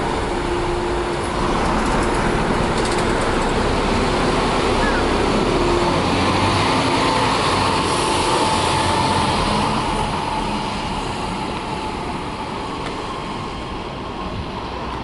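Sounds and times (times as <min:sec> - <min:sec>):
bus diesel engine driving off: 0:00.0 - 0:15.0.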